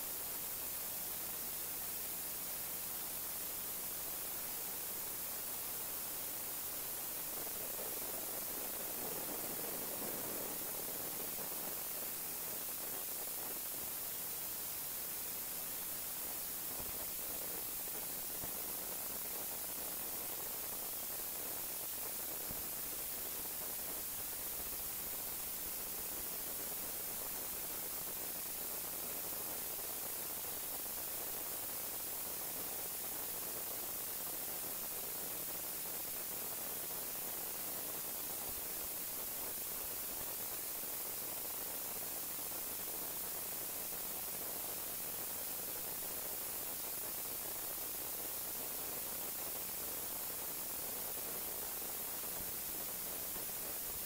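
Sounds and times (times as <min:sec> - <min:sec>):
static-like hiss: 0:00.0 - 0:54.0.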